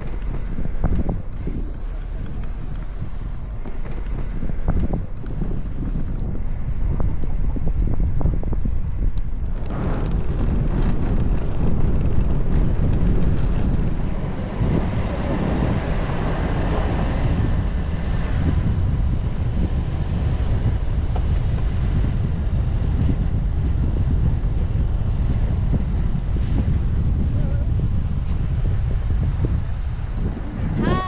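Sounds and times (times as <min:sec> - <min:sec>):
strong wind buffeting microphone: 0:00.0 - 0:31.0.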